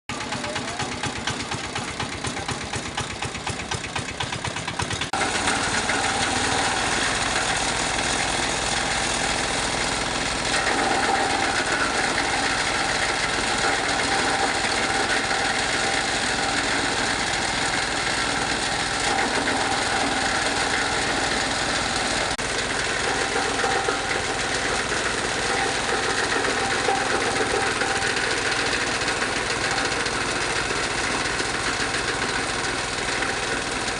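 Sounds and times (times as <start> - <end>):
fabric shredding machine running: 0.1 - 33.9.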